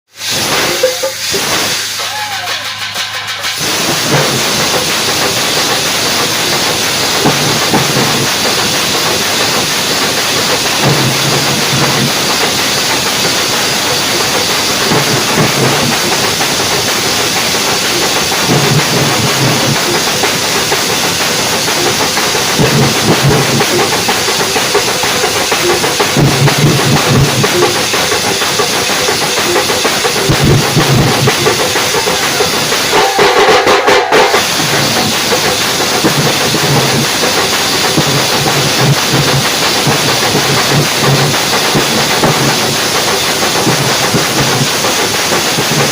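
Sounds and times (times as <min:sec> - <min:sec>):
drum ensemble drumming: 0:00.2 - 0:45.9.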